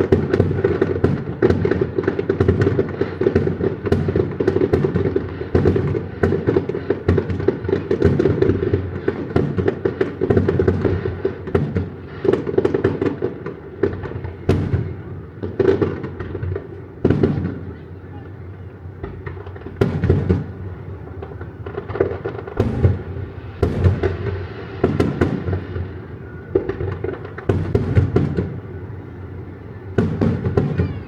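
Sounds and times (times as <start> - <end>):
fireworks booming and crackling: 0.0 - 31.0.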